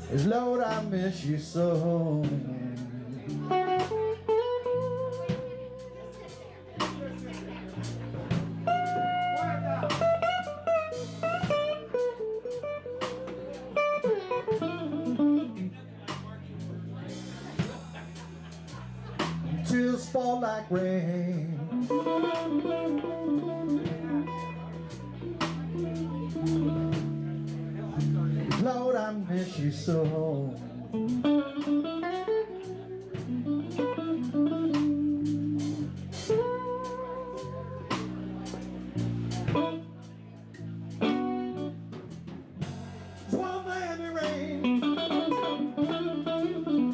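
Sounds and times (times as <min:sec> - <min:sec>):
bass guitar: 0:00.0 - 0:46.9
drum kit: 0:00.0 - 0:46.9
electric guitar lead: 0:00.0 - 0:46.9.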